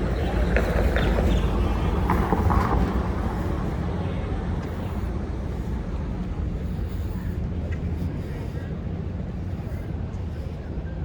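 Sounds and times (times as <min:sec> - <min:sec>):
faint voices: 0:00.0 - 0:11.0
vehicle engine and tyre rumble: 0:00.0 - 0:11.0.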